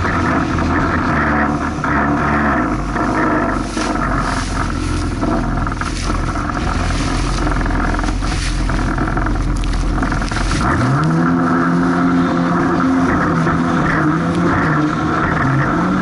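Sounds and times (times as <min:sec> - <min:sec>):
jet ski engine revving: 0:00.0 - 0:16.0
water and wind noise: 0:00.0 - 0:16.0.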